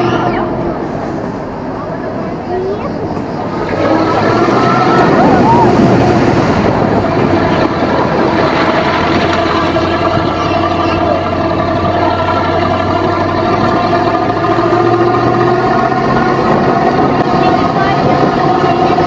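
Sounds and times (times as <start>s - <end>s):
rattly noise: 0.0s - 19.0s
vehicle engine droning: 0.0s - 19.0s.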